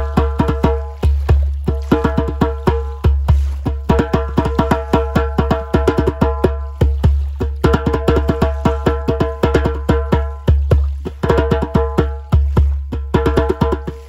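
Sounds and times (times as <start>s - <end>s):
hand drum rhythm: 0.0s - 14.0s.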